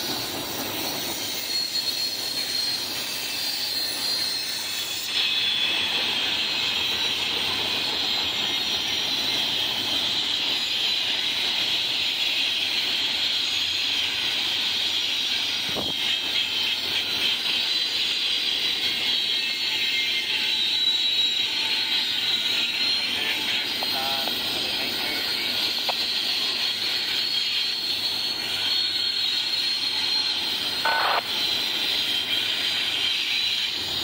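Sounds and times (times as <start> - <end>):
faint high squeal: 0.0 - 34.0
train wheels on rails: 0.0 - 34.0.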